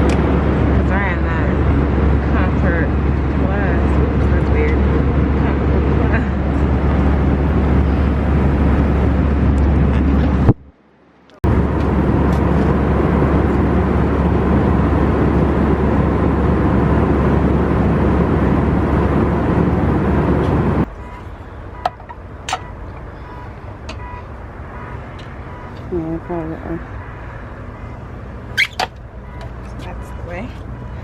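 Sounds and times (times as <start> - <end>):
loud steady cabin rumble: 0.0 - 31.0.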